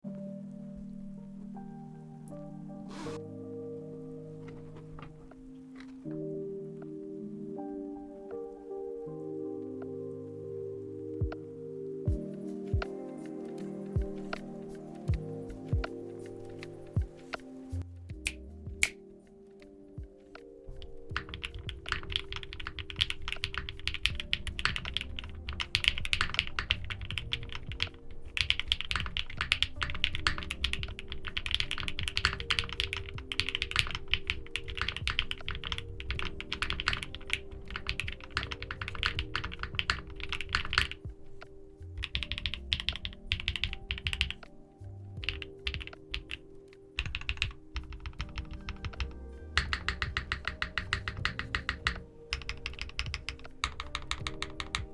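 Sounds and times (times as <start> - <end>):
soft background music: 0.0 - 54.9.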